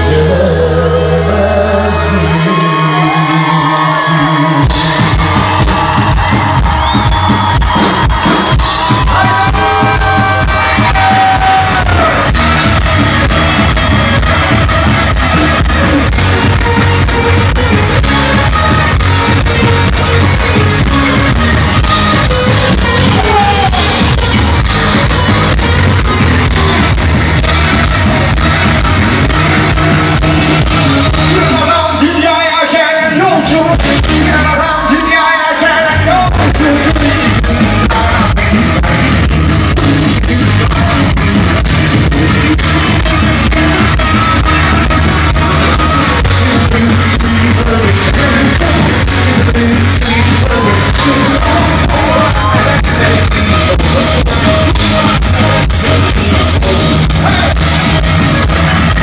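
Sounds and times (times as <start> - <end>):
person singing: 0.0 - 6.1, 8.7 - 59.0
live rock band playing: 0.0 - 59.0
crowd shouting: 2.0 - 38.3, 42.1 - 59.0.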